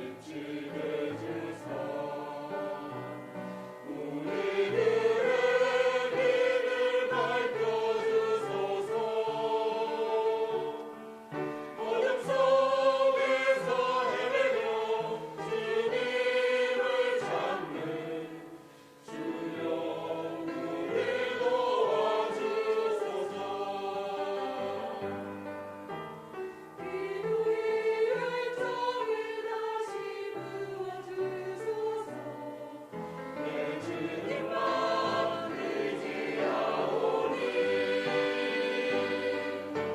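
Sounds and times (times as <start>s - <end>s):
group singing a worship song: 0.0s - 25.4s, 26.8s - 39.9s.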